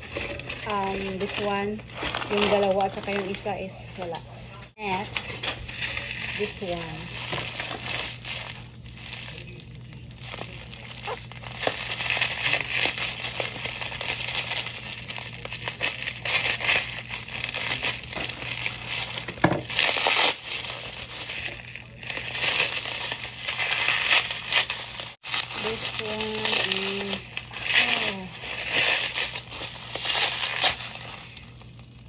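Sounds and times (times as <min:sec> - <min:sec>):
bubble wrap crinkling: 0:00.0 - 0:32.0.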